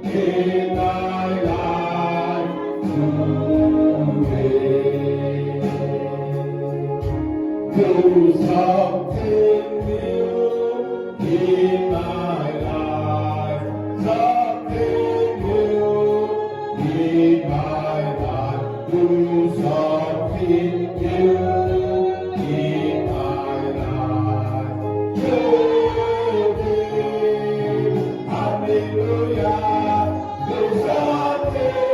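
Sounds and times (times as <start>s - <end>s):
group singing gospel: 0.0s - 31.9s
instrumental backing with low beat: 0.0s - 31.9s.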